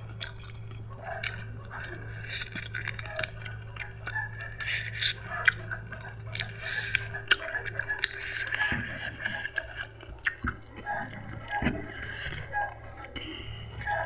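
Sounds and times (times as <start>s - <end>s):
low hum: 0.0s - 14.0s
person chewing: 0.0s - 14.0s.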